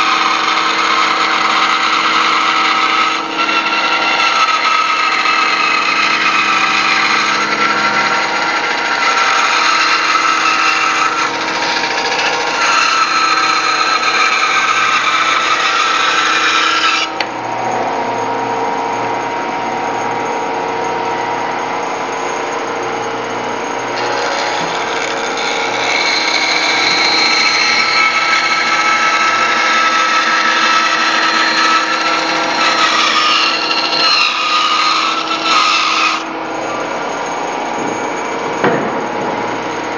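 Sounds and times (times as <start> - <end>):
band saw cutting wood: 0.0 - 18.1, 22.8 - 39.9
band saw running without load: 0.0 - 39.9.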